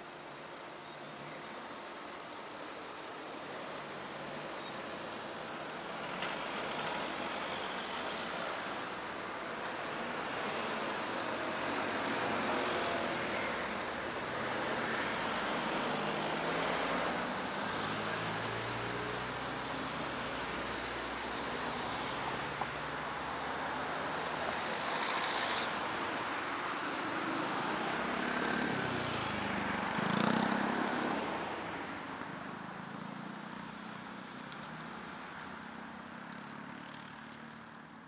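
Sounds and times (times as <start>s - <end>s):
cars passing over crossing: 1.5s - 37.9s.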